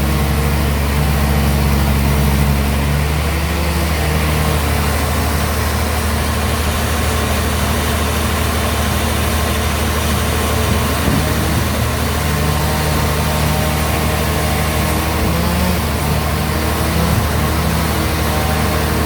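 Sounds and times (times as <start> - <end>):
band sawmill humming: 0.0 - 19.0.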